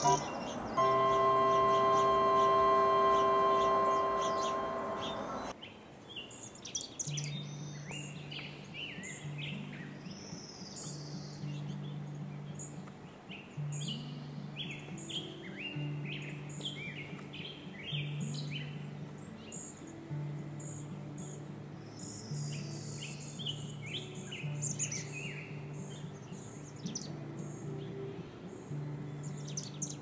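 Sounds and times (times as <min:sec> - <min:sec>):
soft background music: 0:00.0 - 0:05.6, 0:07.2 - 0:30.0
small birds chirping: 0:00.0 - 0:30.0.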